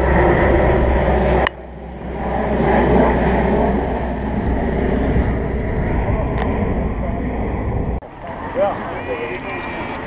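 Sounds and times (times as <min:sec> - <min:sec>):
turboprop plane droning overhead: 0:00.0 - 0:10.0.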